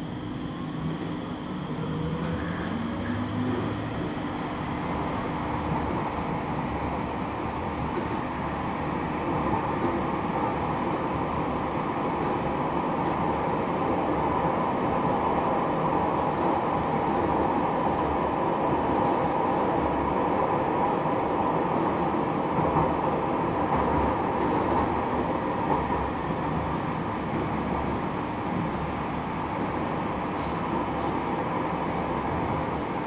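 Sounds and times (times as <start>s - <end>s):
tram wheels and motors rumbling: 0.0s - 33.0s.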